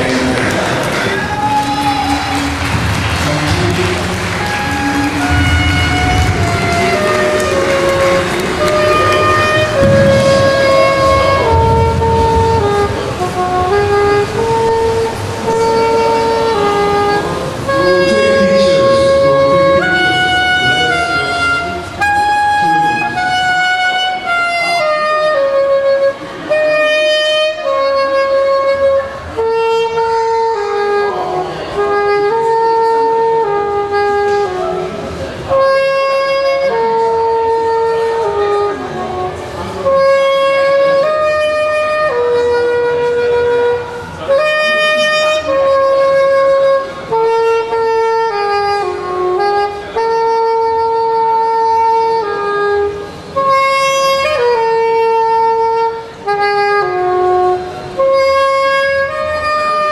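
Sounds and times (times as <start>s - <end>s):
slow instrumental music: 2.4s - 59.9s.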